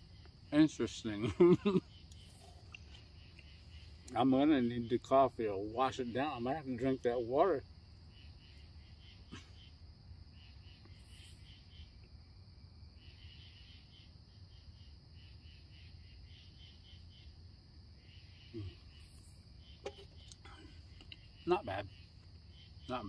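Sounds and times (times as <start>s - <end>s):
crickets chirping: 0.0s - 23.0s
high insect drone: 0.0s - 23.0s.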